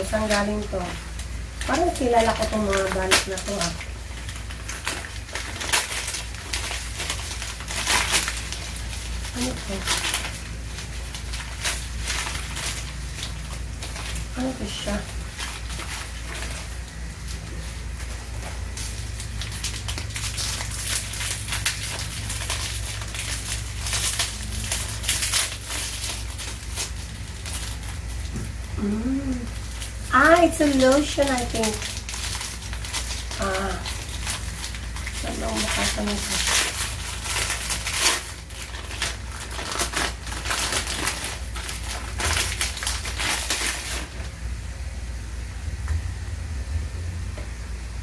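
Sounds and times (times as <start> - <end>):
plastic wrapping crinkling: 0.0 - 44.4
steady low hum: 0.0 - 48.0.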